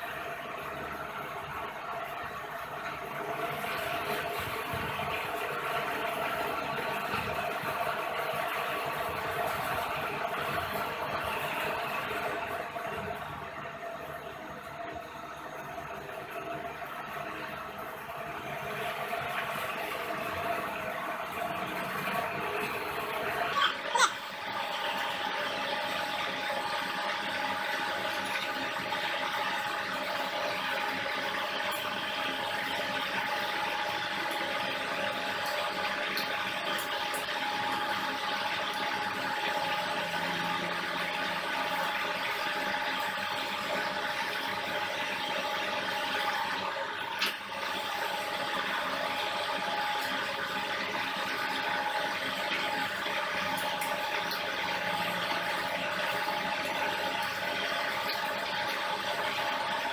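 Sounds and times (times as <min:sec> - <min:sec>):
electric motor and generators whirring: 0:00.0 - 0:59.9.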